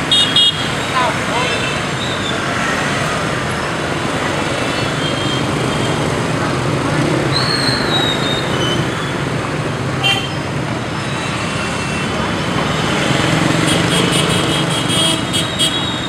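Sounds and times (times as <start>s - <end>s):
motorbike and scooter traffic: 0.0s - 16.0s.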